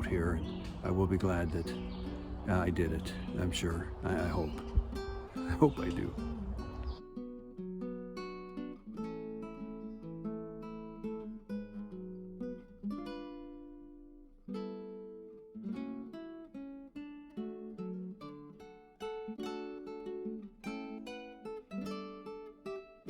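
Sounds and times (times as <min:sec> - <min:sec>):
acoustic guitar chords: 0:00.0 - 0:23.0.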